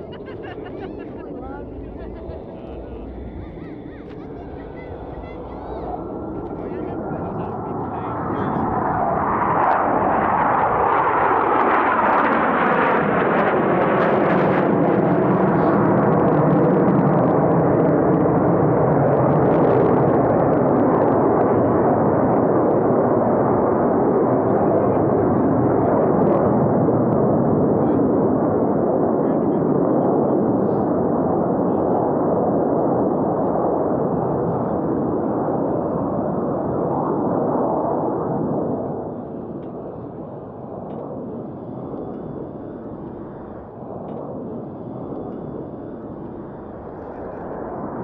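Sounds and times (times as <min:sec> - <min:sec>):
jet engine roar: 0:00.0 - 0:48.0.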